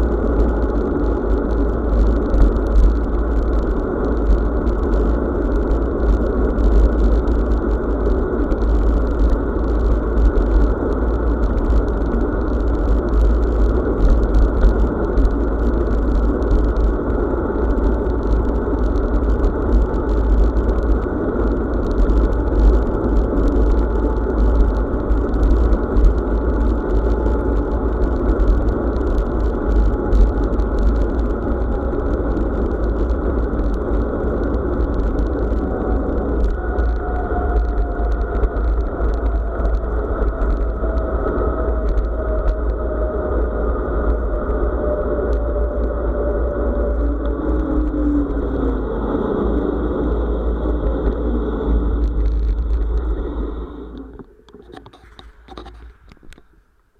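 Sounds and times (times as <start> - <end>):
wind buffeting microphone: 0.0 - 56.7
bicycle tyre road rumble: 0.0 - 56.9.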